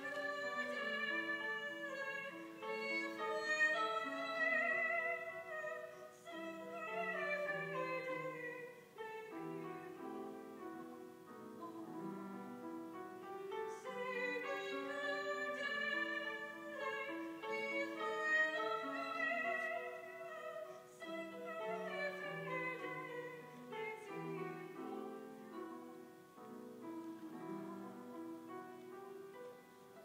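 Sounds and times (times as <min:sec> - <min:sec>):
woman singing operatically: 0:00.0 - 0:12.6, 0:13.5 - 0:26.0
piano accompaniment: 0:00.0 - 0:30.0.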